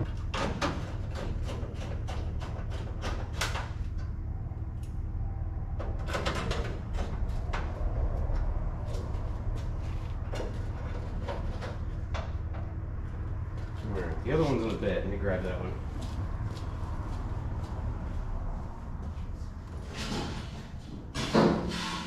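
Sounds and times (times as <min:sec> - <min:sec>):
steady low hum: 0:00.0 - 0:21.7.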